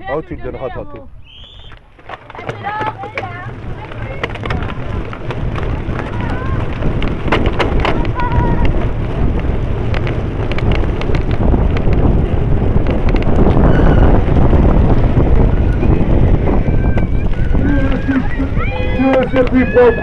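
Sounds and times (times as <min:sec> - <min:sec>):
wind buffeting microphone: 0:00.0 - 0:20.0
bicycle clicks and rattles: 0:01.0 - 0:20.0.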